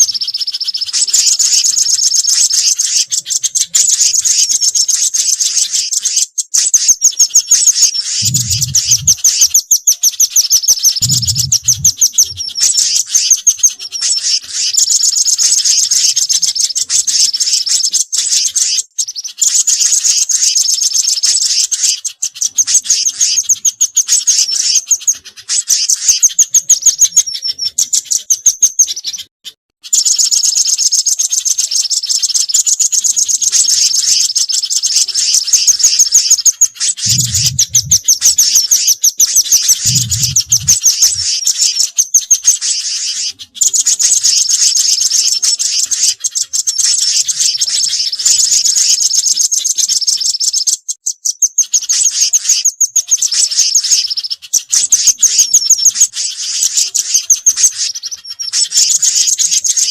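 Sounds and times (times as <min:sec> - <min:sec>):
birds chirping trills: 0:00.0 - 0:59.9.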